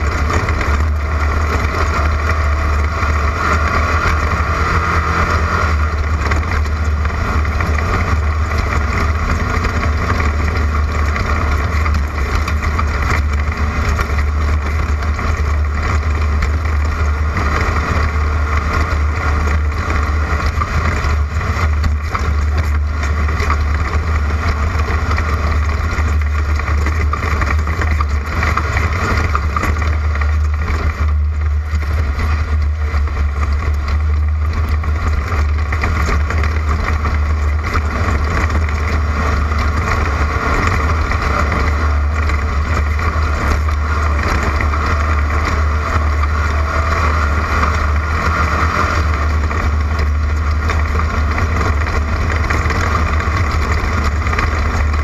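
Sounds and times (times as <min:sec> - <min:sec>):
race car engine drone: 0:00.0 - 0:55.0
rough road noise: 0:00.0 - 0:55.0.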